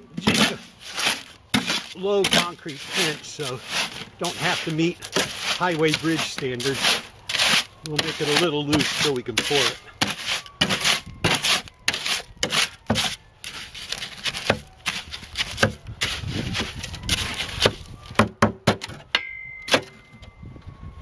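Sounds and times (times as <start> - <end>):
hoe scraping wet concrete mix: 0.0 - 17.9.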